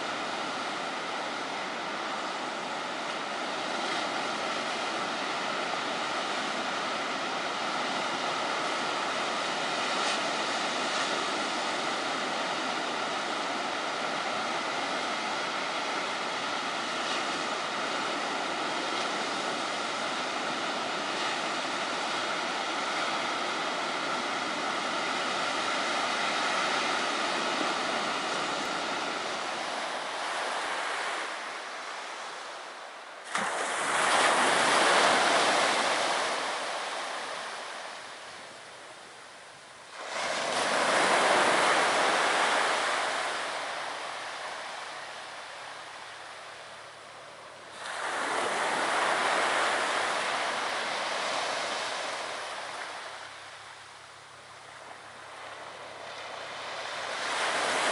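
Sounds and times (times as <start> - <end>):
ocean waves breaking on beach: 0.0 - 57.9.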